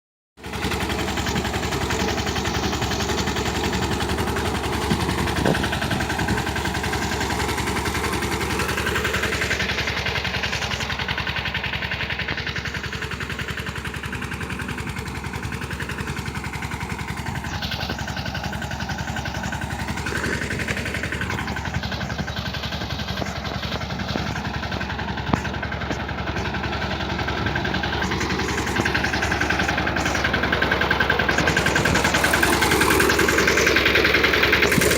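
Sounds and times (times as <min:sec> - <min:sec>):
tractor engine running: 0:00.4 - 0:34.9.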